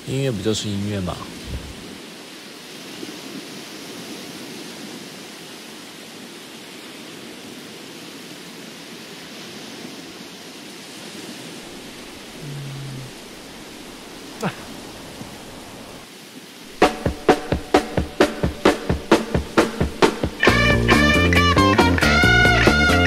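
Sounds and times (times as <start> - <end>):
steady rushing hiss: 0.0 - 23.0.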